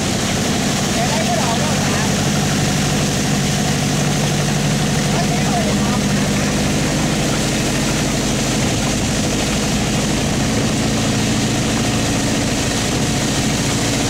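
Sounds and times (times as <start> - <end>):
boat engine running at high speed: 0.0 - 14.0
water spraying off hull: 0.0 - 14.0.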